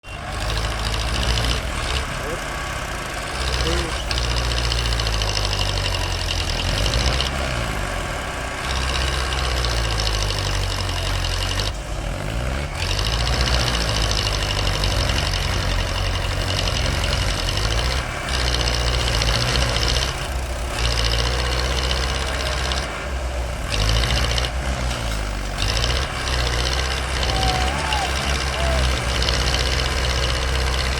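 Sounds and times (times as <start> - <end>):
heavy diesel engine rumbling: 0.0 - 30.9.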